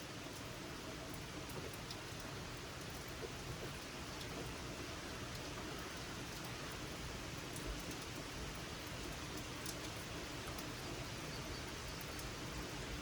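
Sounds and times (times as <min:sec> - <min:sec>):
gentle rain falling: 0:00.0 - 0:13.0.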